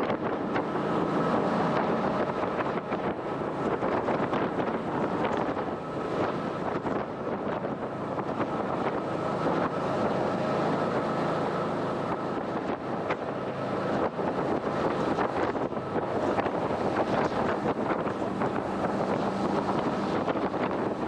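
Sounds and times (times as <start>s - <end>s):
jet boat engine and water rushing: 0.0s - 21.0s
wind buffeting microphone: 0.0s - 21.0s.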